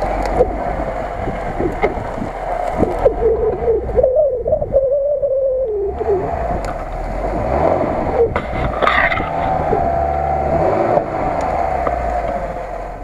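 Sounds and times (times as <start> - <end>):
car engine running under load: 0.0 - 13.0.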